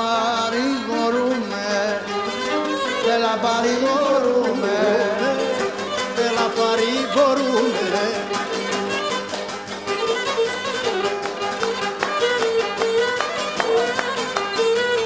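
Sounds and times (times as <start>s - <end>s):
fast plucked strumming: 0.0s - 15.0s
bowed lyra melody: 0.8s - 15.0s.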